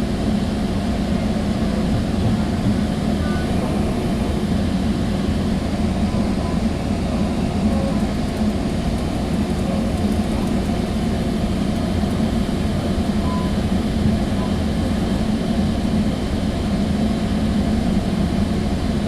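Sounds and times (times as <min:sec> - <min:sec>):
train coach rumbling: 0:00.0 - 0:19.0.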